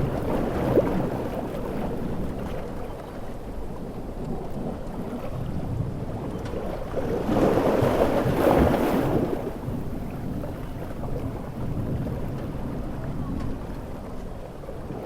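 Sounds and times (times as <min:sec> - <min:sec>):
surf: 0:00.0 - 0:15.0.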